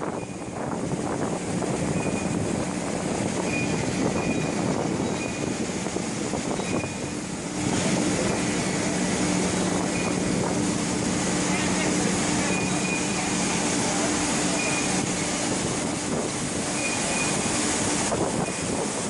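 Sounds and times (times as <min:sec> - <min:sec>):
truck engine and vacuum blower drone: 0:00.0 - 0:19.0.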